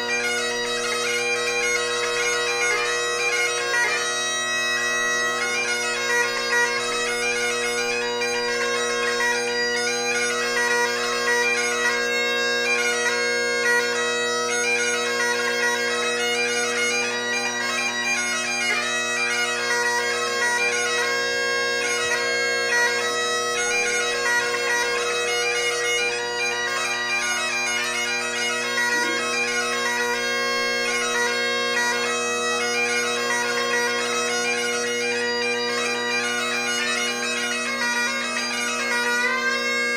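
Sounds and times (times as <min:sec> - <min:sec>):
bagpipe drones and melody: 0:00.0 - 0:39.9.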